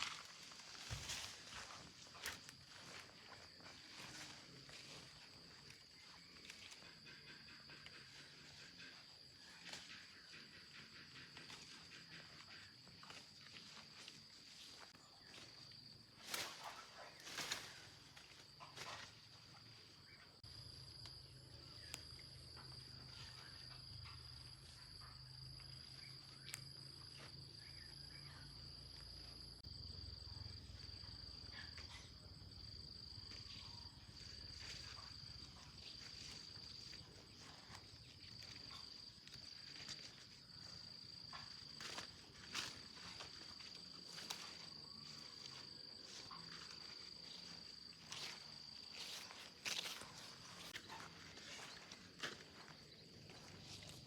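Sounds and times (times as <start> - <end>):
insect chirring: 0.0 - 54.0.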